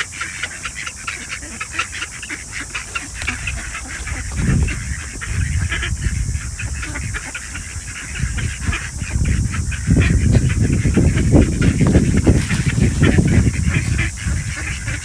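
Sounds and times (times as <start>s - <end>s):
ducks quacking: 0.0s - 15.0s
steady hiss: 0.0s - 15.0s.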